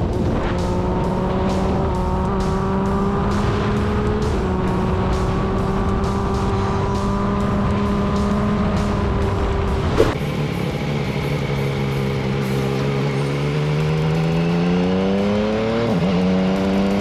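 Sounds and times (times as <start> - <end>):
background music with beat: 0.0 - 17.0
motorcycle engine at high revs: 0.0 - 17.0.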